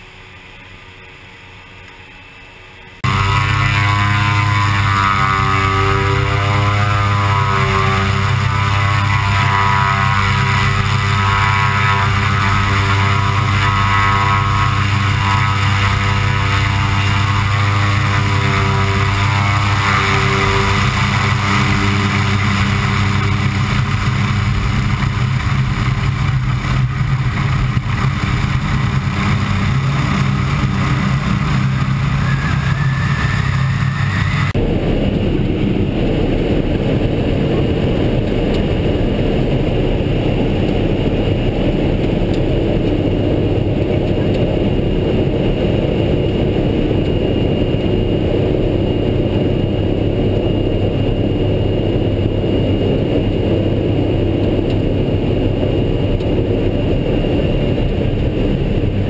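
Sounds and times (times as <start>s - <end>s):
turboprop engine drone: 0.0s - 59.0s
rushing noise: 3.0s - 59.0s.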